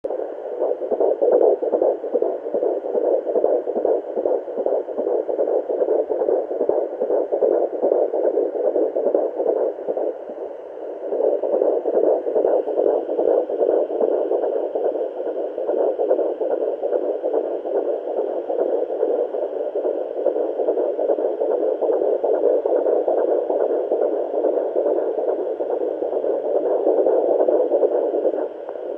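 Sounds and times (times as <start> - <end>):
fetal heartbeat on doppler: 0.0 - 28.9
static hiss: 0.1 - 28.9.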